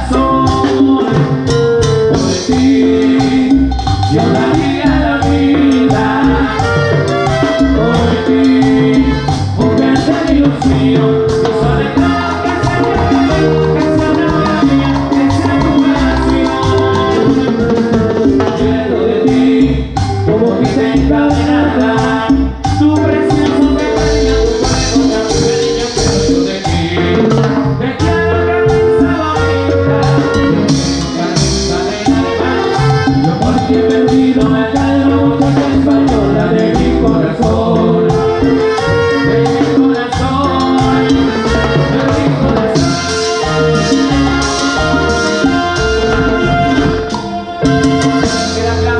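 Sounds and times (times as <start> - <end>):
latin dance band playing: 0.0 - 48.9.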